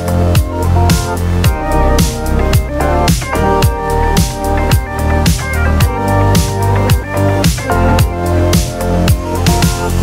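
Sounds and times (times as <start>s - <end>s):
deep kick drum: 0.0s - 10.0s
held synth notes: 0.0s - 10.0s.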